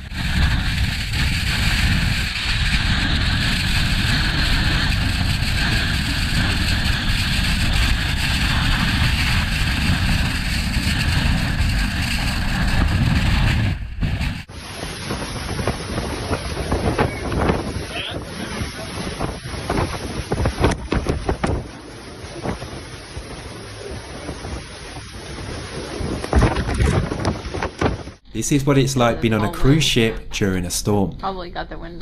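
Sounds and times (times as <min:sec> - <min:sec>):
strong wind on microphone: 0:00.0 - 0:28.3.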